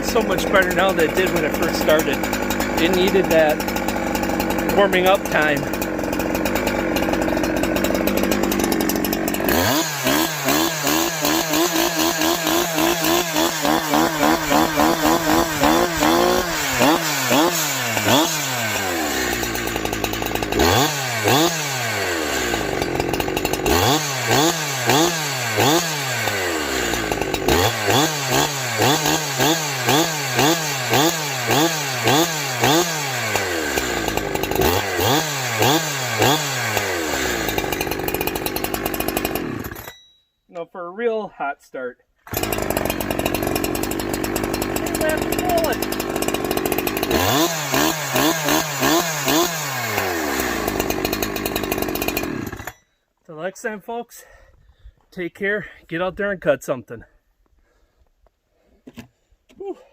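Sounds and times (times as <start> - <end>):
chainsaw revving: 0.0 - 40.0, 42.2 - 52.8.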